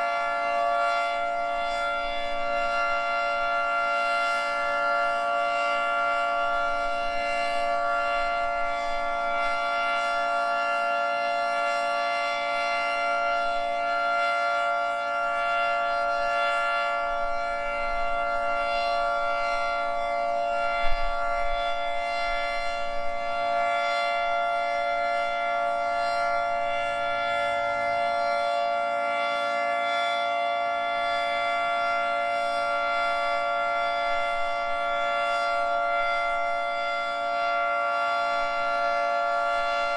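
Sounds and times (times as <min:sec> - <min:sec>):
steady two-tone siren: 0:00.0 - 0:39.9.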